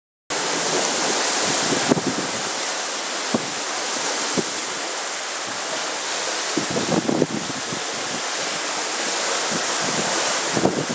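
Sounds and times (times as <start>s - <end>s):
water along boat hulls: 0.3s - 10.9s
wind on microphone: 0.4s - 10.9s.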